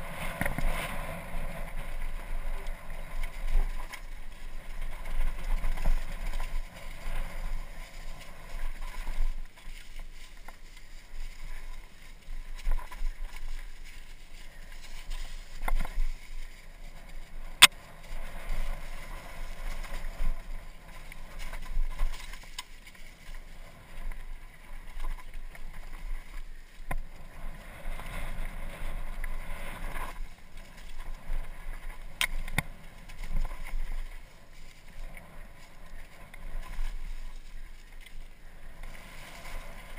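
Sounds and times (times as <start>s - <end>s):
bike rattling over dirt: 0.0s - 39.9s
wind rumbling on microphone: 0.0s - 39.9s.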